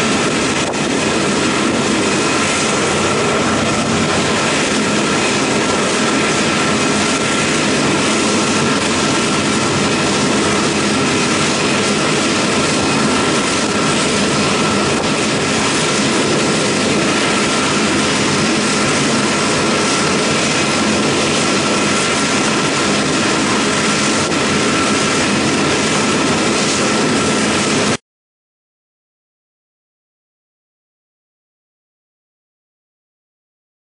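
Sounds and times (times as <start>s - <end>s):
jet engines taxiing: 0.0s - 28.0s.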